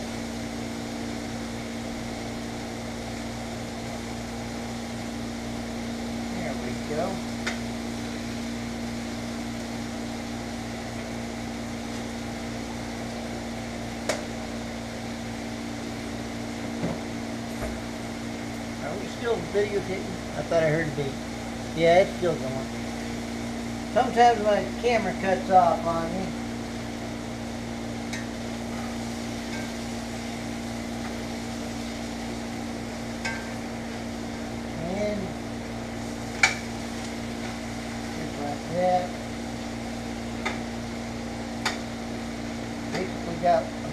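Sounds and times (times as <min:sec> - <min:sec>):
food sizzling in a pan: 0:00.0 - 0:43.9
motor hum: 0:00.0 - 0:43.9.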